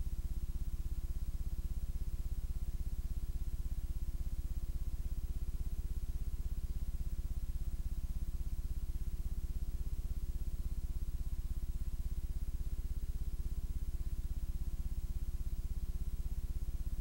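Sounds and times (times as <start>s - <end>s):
mains hum with fast pulsing: 0.0s - 17.0s.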